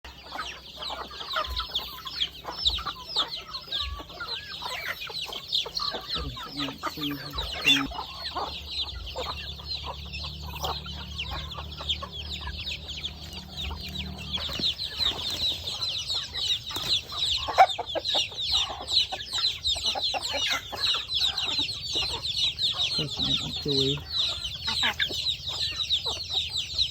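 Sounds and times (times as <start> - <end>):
chickens clucking: 0.0 - 26.9
chicks peeping: 0.0 - 26.9.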